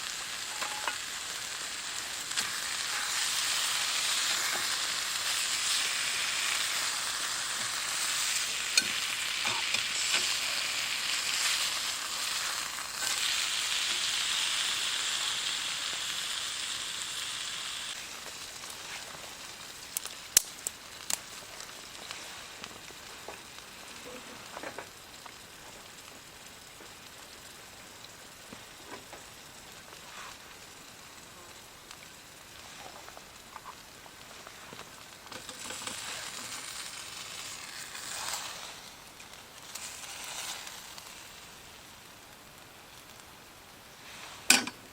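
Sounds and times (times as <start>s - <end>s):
food frying sizzle: 0.0s - 44.9s.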